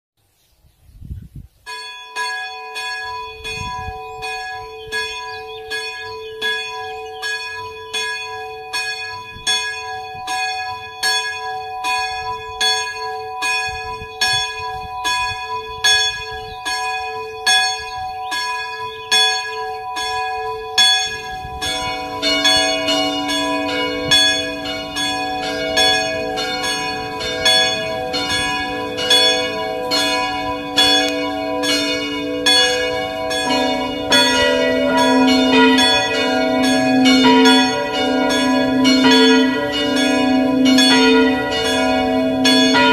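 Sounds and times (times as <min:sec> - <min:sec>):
church bell tolling: 0:01.7 - 0:42.9
lower-pitched bell tolling: 0:01.7 - 0:42.9.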